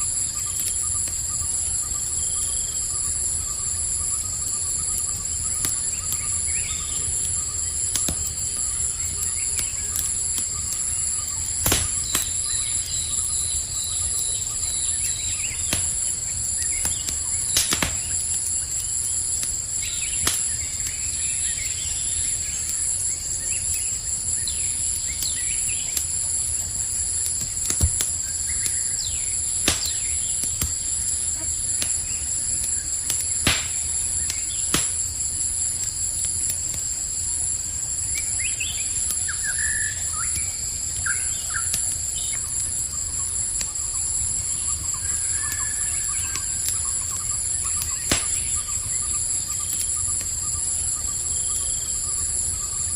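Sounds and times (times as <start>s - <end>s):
campfire crackling and popping: 0.0s - 52.9s
crickets trilling: 0.0s - 52.9s.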